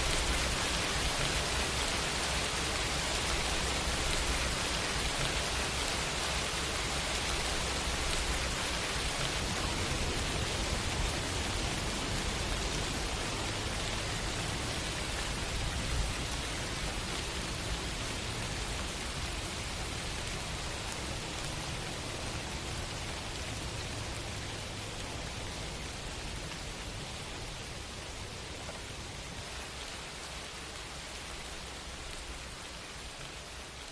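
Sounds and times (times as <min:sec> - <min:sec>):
rain on hard surfaces: 0:00.0 - 0:33.9.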